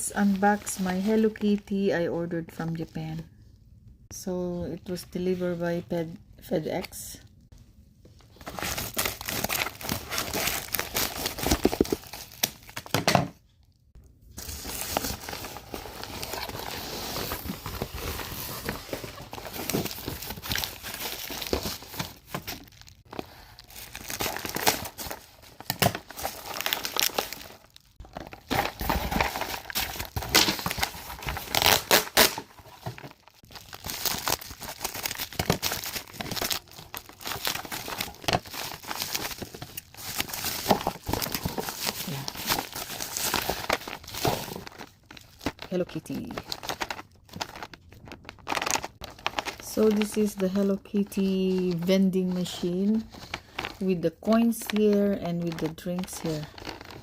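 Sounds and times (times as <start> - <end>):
packaging crinkling and tearing: 8.3 - 13.0, 14.4 - 57.0.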